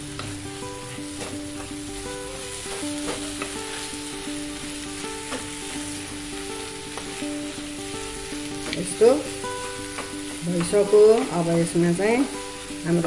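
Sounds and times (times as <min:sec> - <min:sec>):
light sizzle of fat: 0:00.0 - 0:13.0
soft instrumental music: 0:00.0 - 0:13.0.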